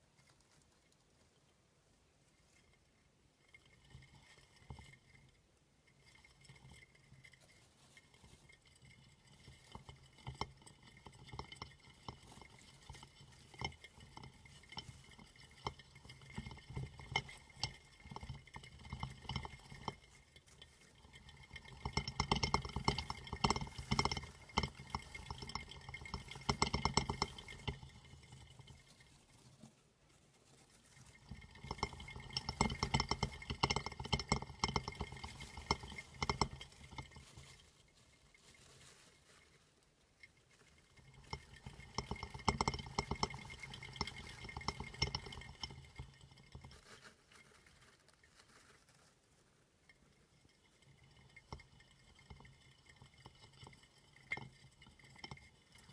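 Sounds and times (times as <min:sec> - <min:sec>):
hamster wheel clicking and rattling: 0:00.0 - 0:55.9.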